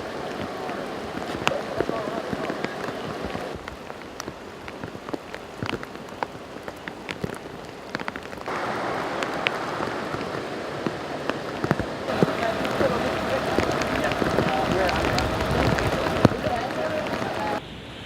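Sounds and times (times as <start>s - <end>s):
rain falling: 0.0s - 17.6s
raindrops ticking close by: 0.0s - 17.6s.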